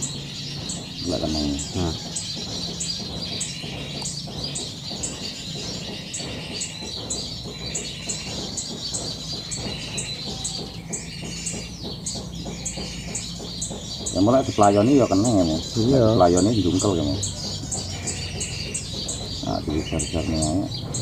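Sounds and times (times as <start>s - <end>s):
lower bird warbling: 0.0s - 21.0s.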